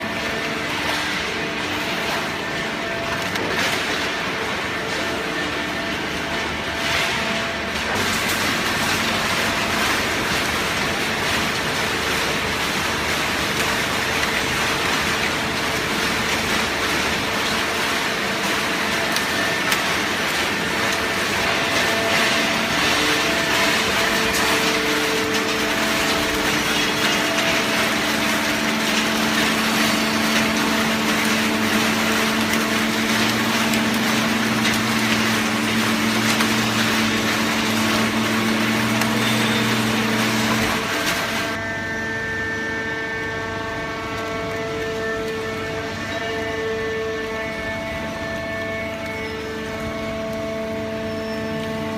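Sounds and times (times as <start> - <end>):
hydraulic baler humming: 0.0 - 51.9.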